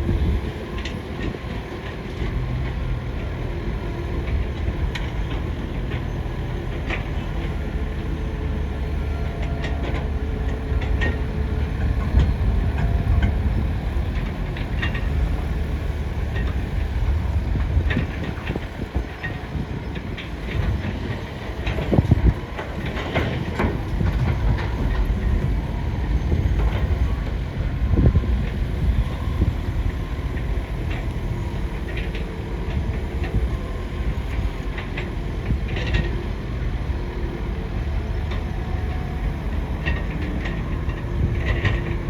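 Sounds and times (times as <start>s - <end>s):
excavator engine rumbling: 0.0s - 42.0s.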